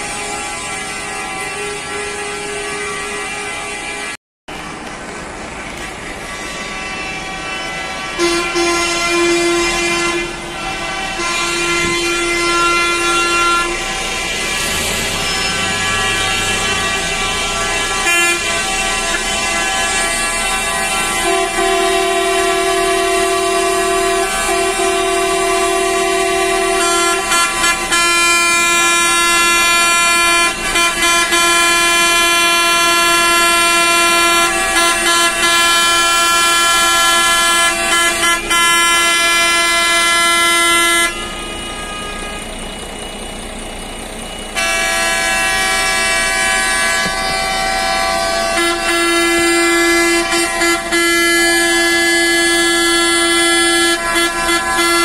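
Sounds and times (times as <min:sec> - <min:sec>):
coach horns blaring: 0:00.0 - 0:04.9, 0:05.6 - 0:55.0.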